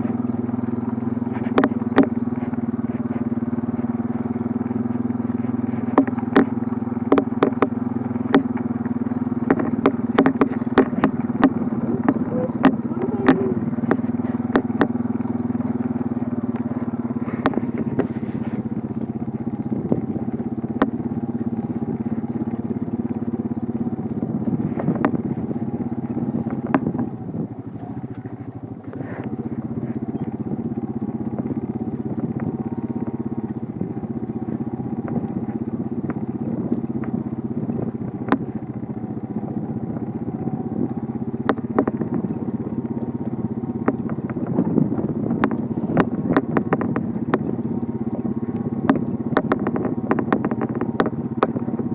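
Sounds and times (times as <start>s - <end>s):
sharp clicks and knocks: 0.0s - 38.9s, 40.8s - 51.9s
motor humming: 0.0s - 51.9s.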